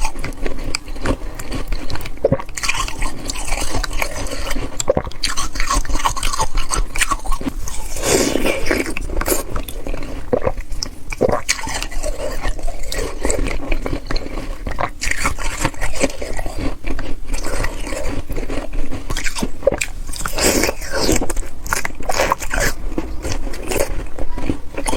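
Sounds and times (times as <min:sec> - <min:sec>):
ice slush being chewed: 0:00.0 - 0:24.9.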